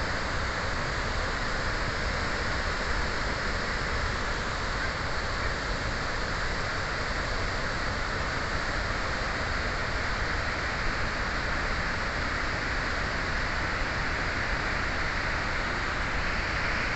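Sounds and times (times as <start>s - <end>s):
rushing floodwater: 0.0s - 16.9s.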